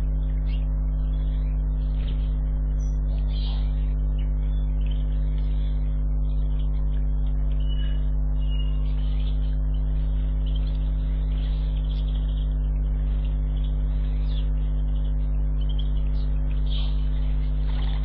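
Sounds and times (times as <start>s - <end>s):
electrical mains hum: 0.0s - 18.0s
high bird chirps: 0.0s - 18.0s.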